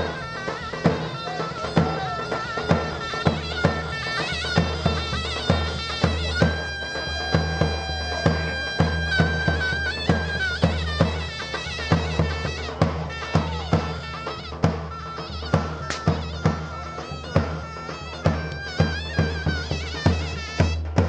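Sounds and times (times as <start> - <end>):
drum beat: 0.0 - 21.0
shrill reed-pipe melody: 0.0 - 21.0.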